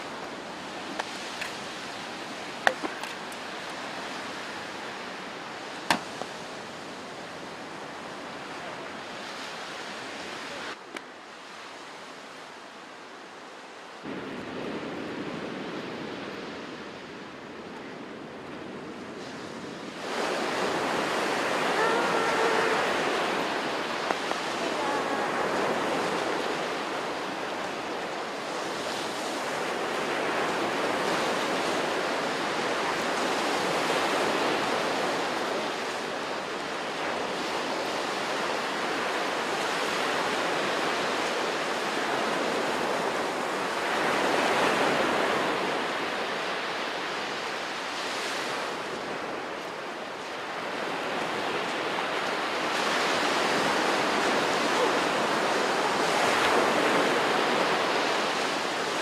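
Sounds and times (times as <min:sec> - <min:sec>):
ocean surf breaking: 0:00.0 - 0:12.3, 0:14.0 - 0:59.0.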